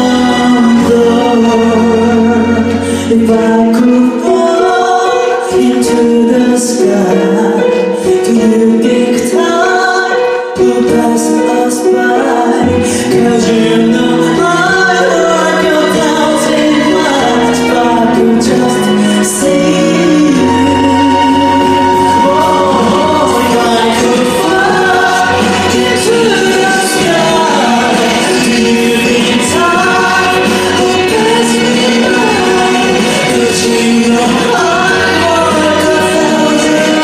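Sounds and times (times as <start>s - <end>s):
song with singing and instruments: 0.0s - 37.0s.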